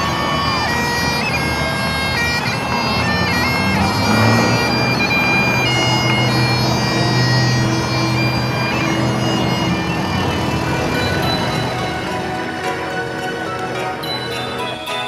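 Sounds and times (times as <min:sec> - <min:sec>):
bagpipes playing a tune: 0:00.0 - 0:15.0.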